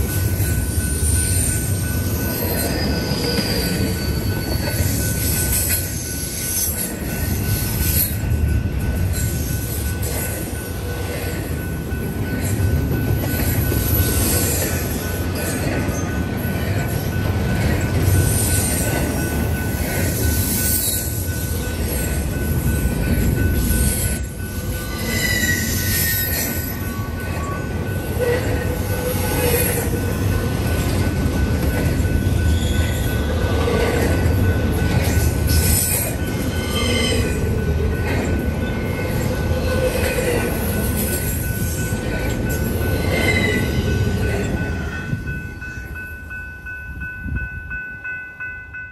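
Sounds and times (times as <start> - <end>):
train cars rumbling past: 0.0 - 48.9.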